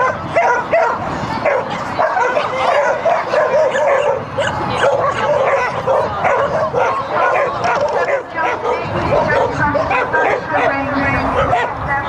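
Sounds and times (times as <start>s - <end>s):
dog barking and yipping: 0.0s - 10.8s, 11.4s - 11.8s.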